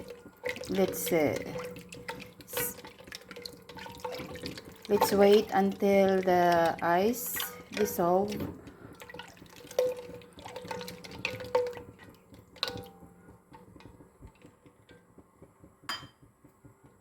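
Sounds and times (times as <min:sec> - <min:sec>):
liquid popping and dripping: 0:00.0 - 0:16.6.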